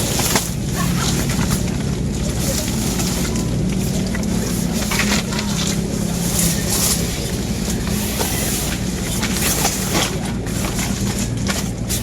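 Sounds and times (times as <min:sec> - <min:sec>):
engine humming: 0:00.0 - 0:12.0
noisy rustling: 0:00.0 - 0:12.0.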